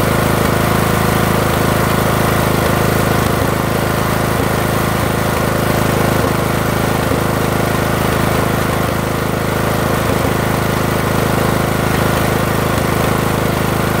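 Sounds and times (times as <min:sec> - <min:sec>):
lawn tractor engine idling rough: 0:00.0 - 0:14.0.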